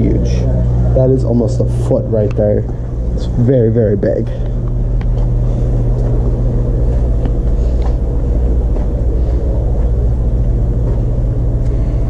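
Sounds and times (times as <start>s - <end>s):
aquarium pumps humming: 0.0s - 12.0s.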